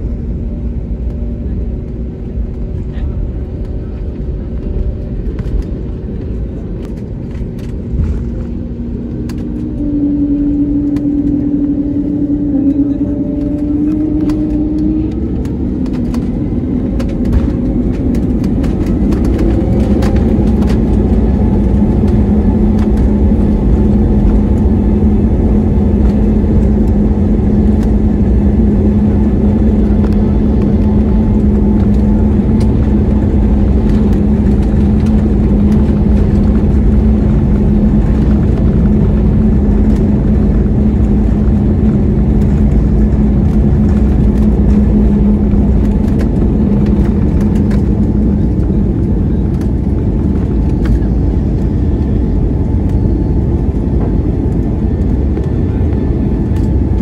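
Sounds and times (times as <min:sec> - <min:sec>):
airliner engines roaring: 0:00.0 - 0:57.0.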